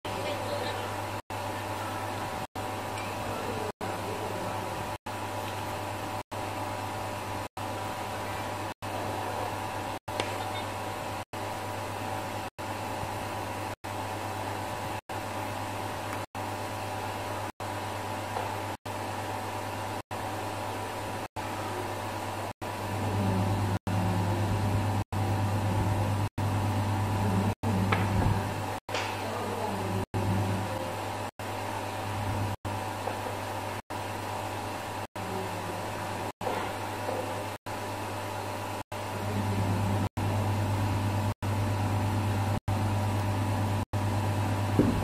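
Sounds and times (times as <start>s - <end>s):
low machine hum: 0.1s - 45.0s.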